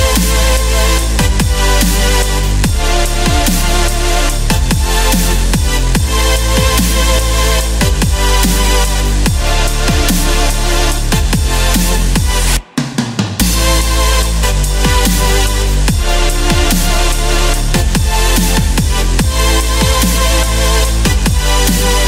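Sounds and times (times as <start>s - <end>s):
electronic music with deep bass: 0.0s - 22.0s.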